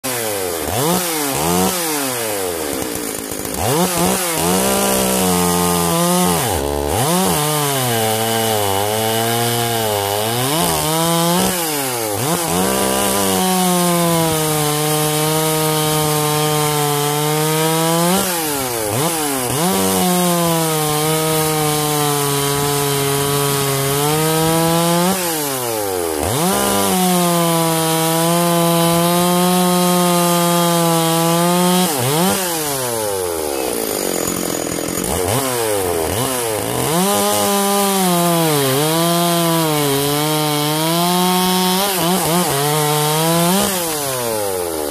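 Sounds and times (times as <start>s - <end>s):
chainsaw cutting through log: 0.0s - 44.9s.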